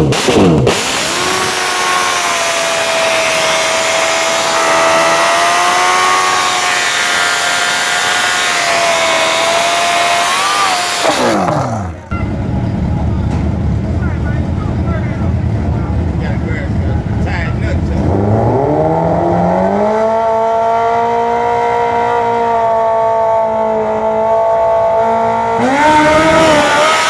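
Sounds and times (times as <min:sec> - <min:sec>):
drag car engine high-pitched whine: 0:00.0 - 0:27.0.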